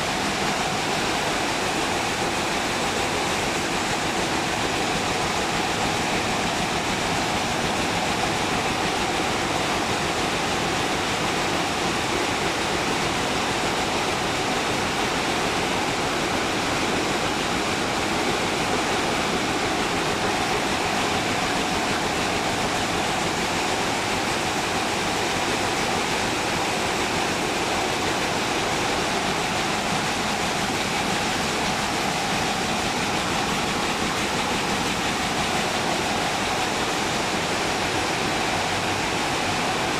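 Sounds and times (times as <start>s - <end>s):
weaving loom running: 0.0s - 39.9s.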